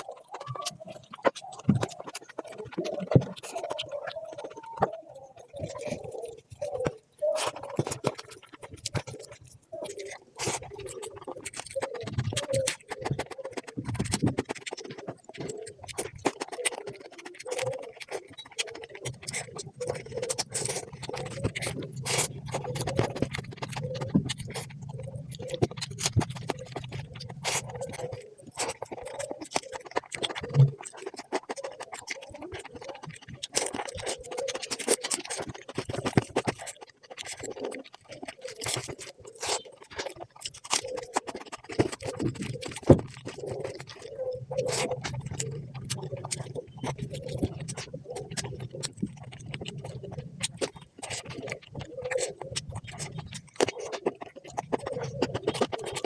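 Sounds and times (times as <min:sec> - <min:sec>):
wet chewing and smacking: 0:00.0 - 0:56.0.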